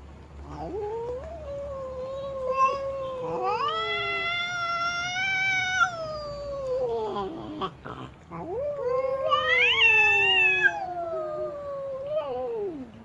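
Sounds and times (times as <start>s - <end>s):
cat caterwauling: 0.4s - 13.0s.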